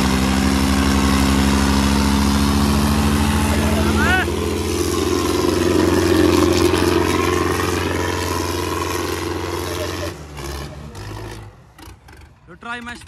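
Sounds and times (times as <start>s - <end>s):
tractor diesel engines under load: 0.0s - 13.0s.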